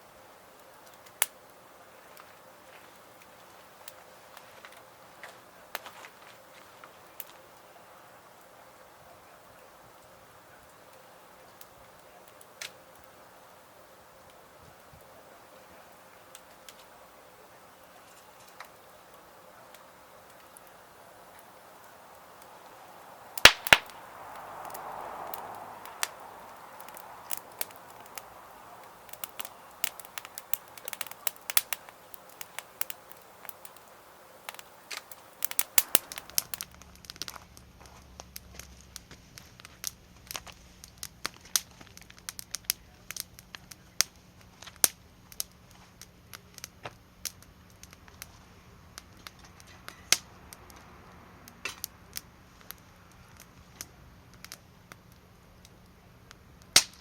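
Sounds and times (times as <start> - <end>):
burning wood popping: 0.0 - 57.0
campfire crackling: 0.0 - 57.0.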